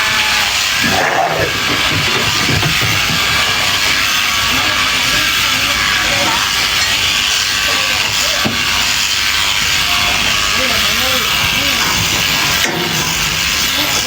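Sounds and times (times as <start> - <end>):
electric sheep shears buzzing: 0.0 - 14.0.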